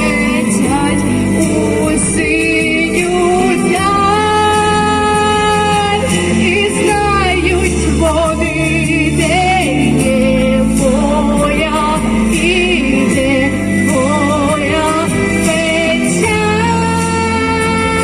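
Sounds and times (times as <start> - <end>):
instrumental backing track with bass: 0.0 - 18.0
woman singing with vibrato: 0.0 - 18.0.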